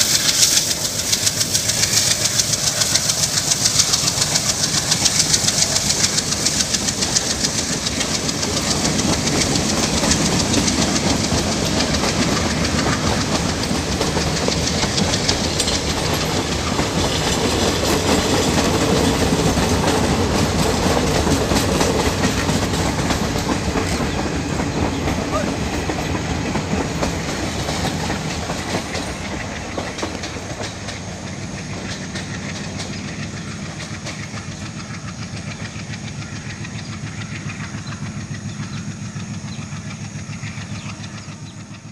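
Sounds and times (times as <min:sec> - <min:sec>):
train wheels clattering over rail joints: 0:00.0 - 0:41.9.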